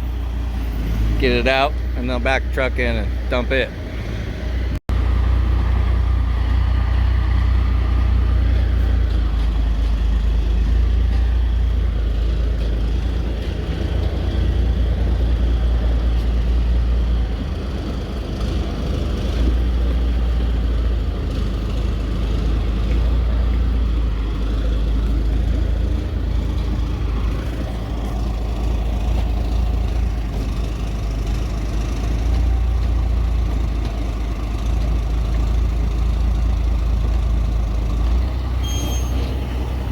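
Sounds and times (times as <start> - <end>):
truck engine rumbling: 0.0 - 39.9.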